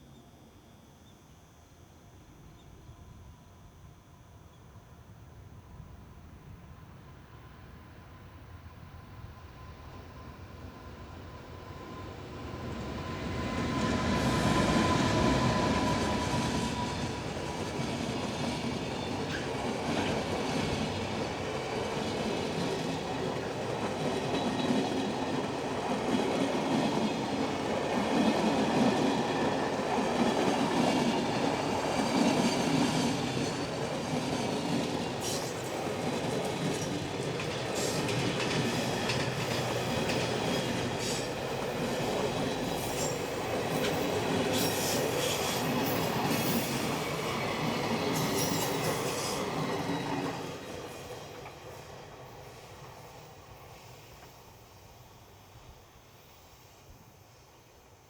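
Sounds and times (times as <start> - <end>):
freight train passing: 5.4 - 58.0.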